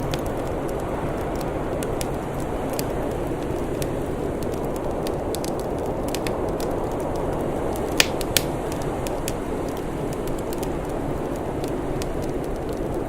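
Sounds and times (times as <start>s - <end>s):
steady rushing noise: 0.0s - 13.0s
wood fire crackling: 0.0s - 13.0s.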